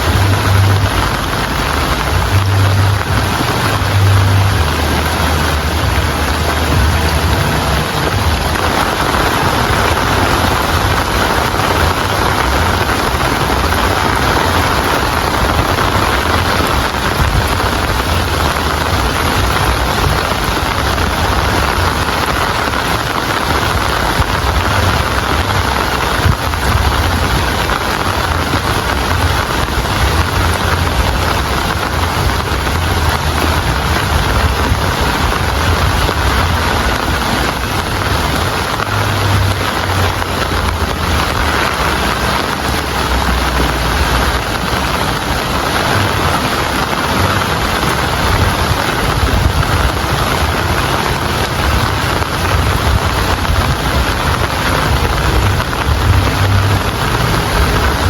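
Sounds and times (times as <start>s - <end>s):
low rumble: 0.0s - 58.0s
steady rain: 0.0s - 58.0s.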